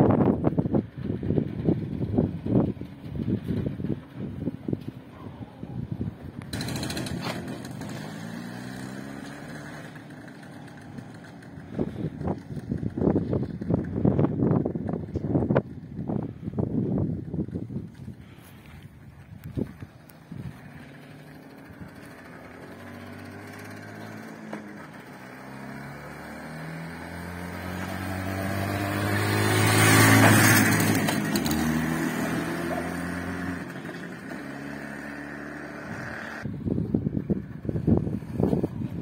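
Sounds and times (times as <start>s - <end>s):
motorcycle engine passing: 6.3s - 18.4s, 19.4s - 39.0s.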